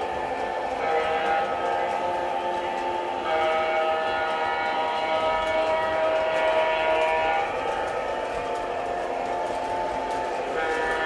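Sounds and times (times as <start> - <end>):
model trains running: 0.0 - 11.0.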